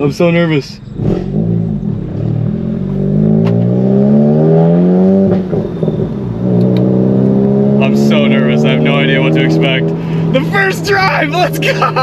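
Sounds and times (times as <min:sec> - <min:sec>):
car engine accelerating: 0:00.6 - 0:12.0.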